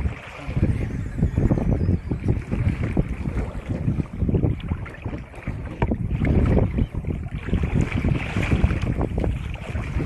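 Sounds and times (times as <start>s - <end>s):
water slapping against kayak hull: 0.0s - 10.0s
wind buffeting microphone: 0.0s - 10.0s.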